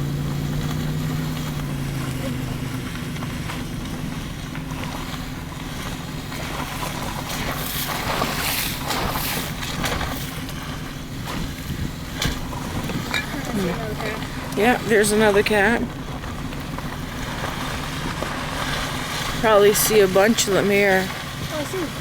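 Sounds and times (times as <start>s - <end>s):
car engine hum: 0.0s - 22.0s
rushing rumbling noise: 0.0s - 22.0s.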